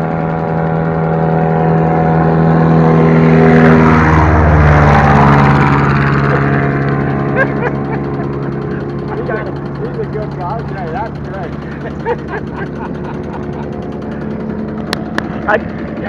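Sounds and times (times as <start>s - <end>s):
propeller airplane passing: 0.0s - 16.0s.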